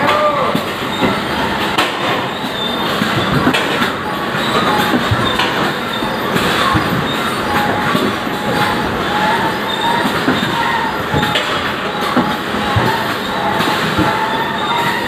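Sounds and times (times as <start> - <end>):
conveyor belt clatter: 0.0 - 15.0
short squeaks: 0.8 - 15.0.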